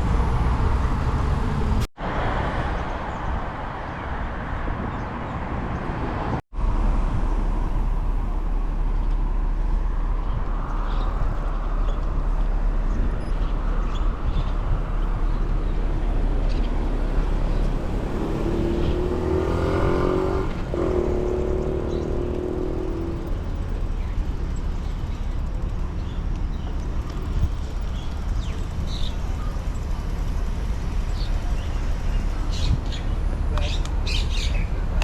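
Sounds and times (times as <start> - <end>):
road and wind noise: 0.0 - 35.0
traffic passing: 0.0 - 35.0
vehicle engine drone: 0.0 - 35.0.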